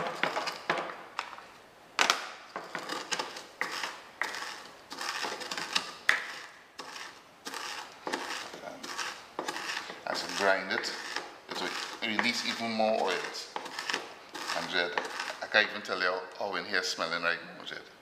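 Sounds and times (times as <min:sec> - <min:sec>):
pestle pounding spice seeds: 0:00.0 - 0:01.3, 0:02.0 - 0:15.6.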